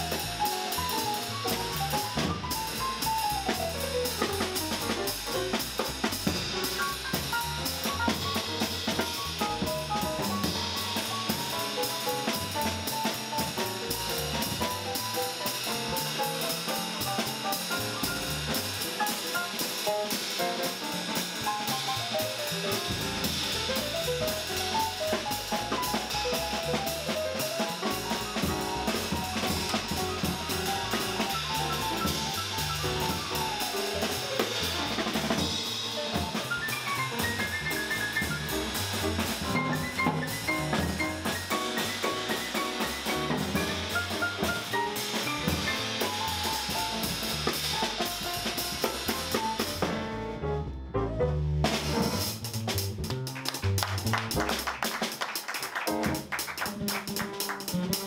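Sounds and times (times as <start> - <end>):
drum kit cymbals and snare: 0.0 - 50.5, 51.2 - 58.0
walking double bass: 0.0 - 55.1, 55.9 - 58.0
quick jazz melody line: 0.0 - 58.0.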